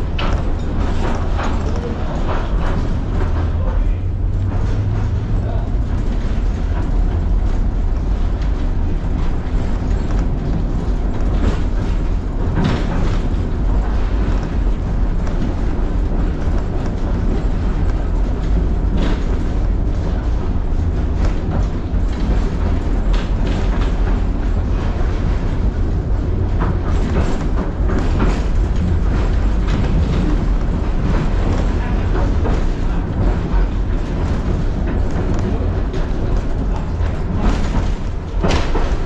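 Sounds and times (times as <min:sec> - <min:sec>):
tram rumbling on rails: 0:00.0 - 0:39.0
wheels knocking and rattling: 0:00.0 - 0:39.0.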